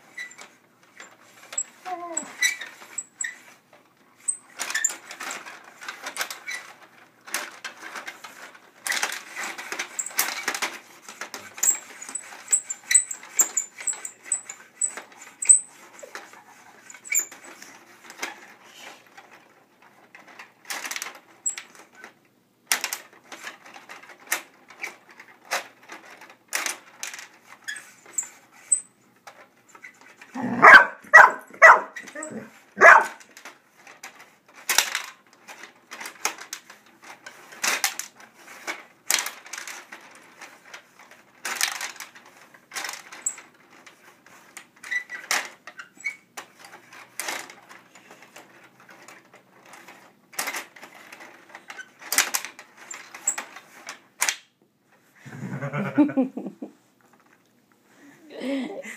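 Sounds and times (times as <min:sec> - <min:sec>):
plastic table hockey game rattling: 0:00.0 - 0:30.3, 0:31.1 - 0:54.5.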